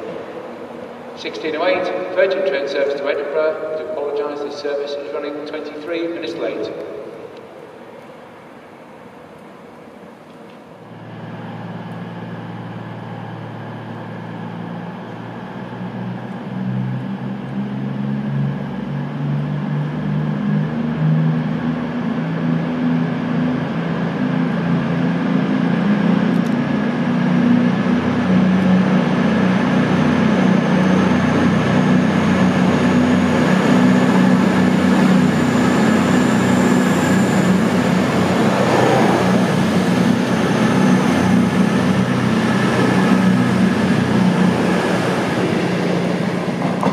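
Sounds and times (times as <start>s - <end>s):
diesel train engines droning: 0.0s - 46.9s
high whine of passing train: 0.0s - 46.9s.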